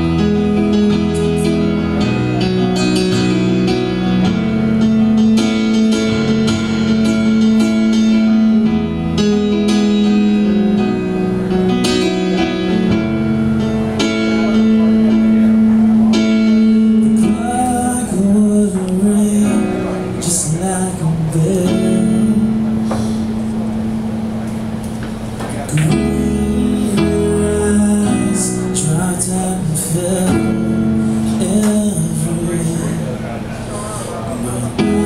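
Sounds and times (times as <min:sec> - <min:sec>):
guitar-like chord music: 0:00.0 - 0:35.0.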